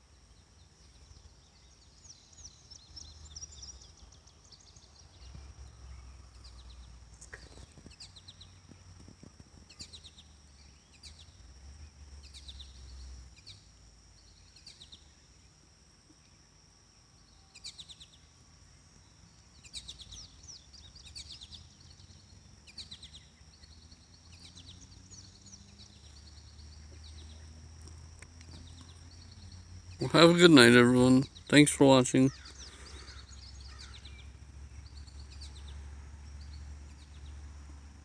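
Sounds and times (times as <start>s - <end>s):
small birds chirping: 0.3s - 38.0s.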